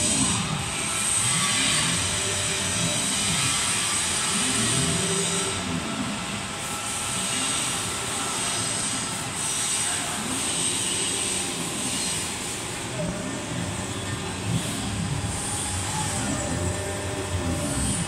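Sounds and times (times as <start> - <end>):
router spindle whining: 0.0 - 18.0.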